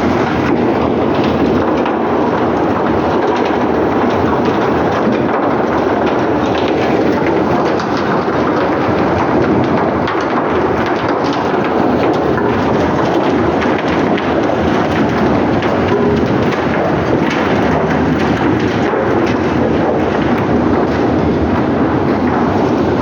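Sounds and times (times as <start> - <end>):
faint clicks and rattles: 0.0 - 23.0
heavy machinery roar: 0.0 - 23.0.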